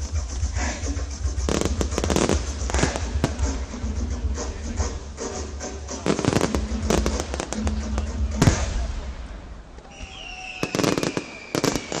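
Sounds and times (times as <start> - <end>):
fireworks bangs and crackles: 0.0 - 3.8, 6.0 - 12.0.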